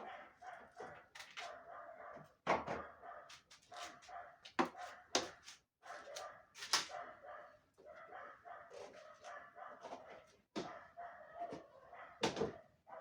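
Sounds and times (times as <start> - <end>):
dog barking: 0.0 - 13.0.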